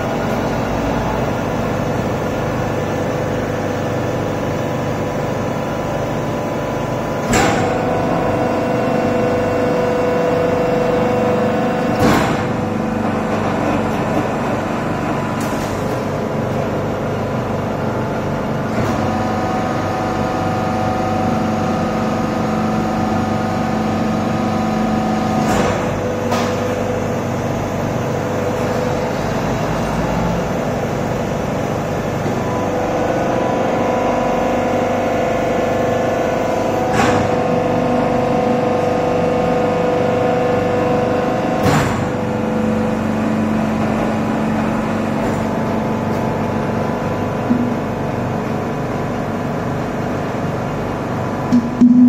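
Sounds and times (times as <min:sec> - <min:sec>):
hydraulic machine whine: 0:00.0 - 0:52.0.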